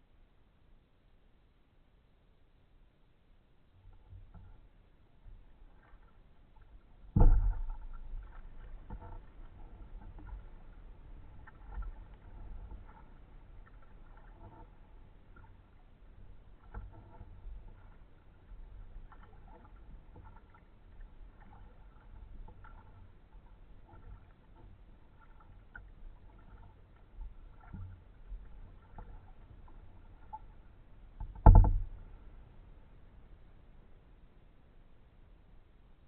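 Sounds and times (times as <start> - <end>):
paddle strokes in water: 3.5 - 34.6.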